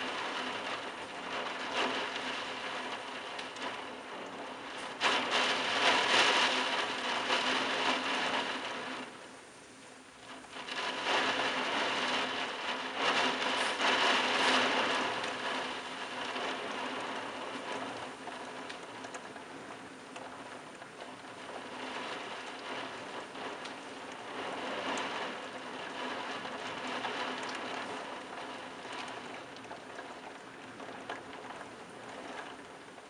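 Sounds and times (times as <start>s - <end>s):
heavy rain on rooftops: 0.0s - 33.0s.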